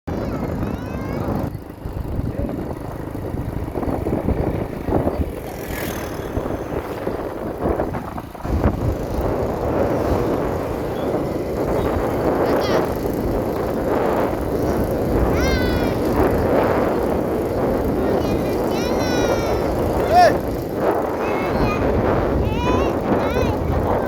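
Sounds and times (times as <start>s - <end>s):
motorcycle engine: 0.1s - 24.0s
road noise: 0.1s - 24.0s
wind buffeting microphone: 0.1s - 24.0s.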